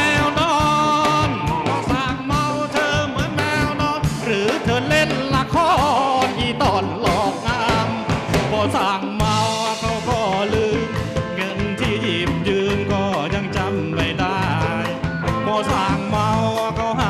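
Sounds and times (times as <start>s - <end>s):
bass line: 0.0s - 17.0s
bending lead melody: 0.0s - 17.0s
drum kit with cymbals: 0.0s - 17.0s.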